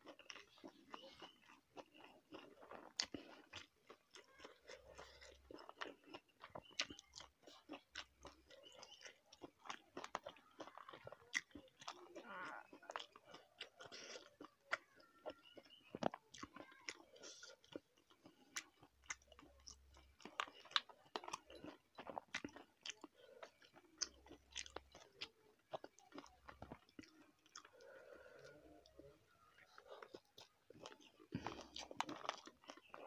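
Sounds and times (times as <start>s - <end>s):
person chewing crunchy food: 0.0s - 33.0s.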